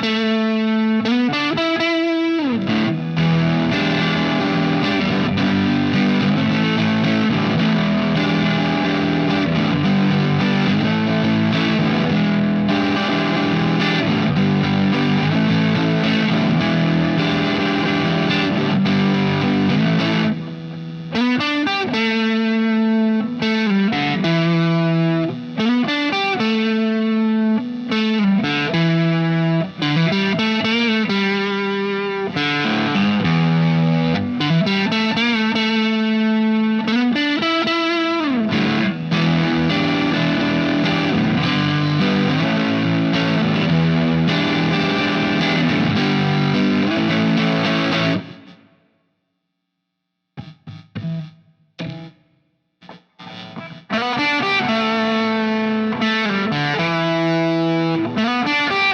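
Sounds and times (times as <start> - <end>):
distorted electric guitar: 0.0 - 48.9, 50.4 - 58.9.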